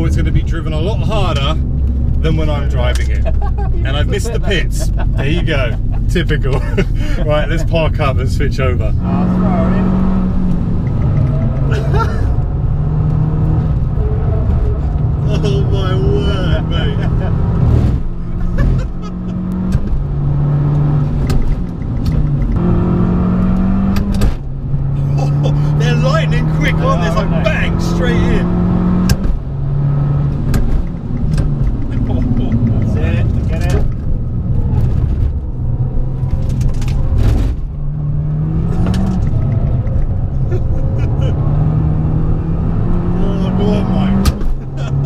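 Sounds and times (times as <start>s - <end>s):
car engine running hard: 0.0s - 45.0s.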